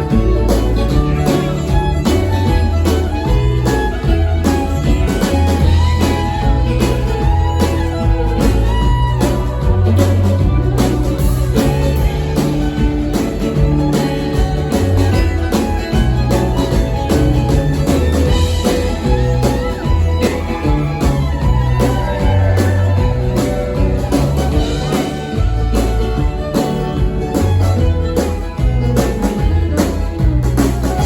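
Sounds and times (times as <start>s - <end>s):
bass line: 0.0s - 31.0s
drum beat: 0.0s - 31.0s
guitar playing: 0.0s - 31.0s.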